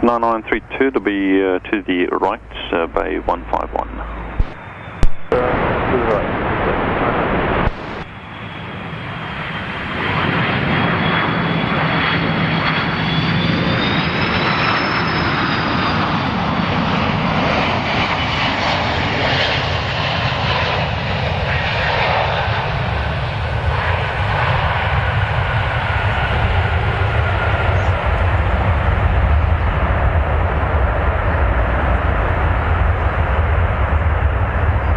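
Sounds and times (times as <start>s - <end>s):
high jet engine whine: 0.0s - 34.9s
jet engine rumble: 0.0s - 34.9s.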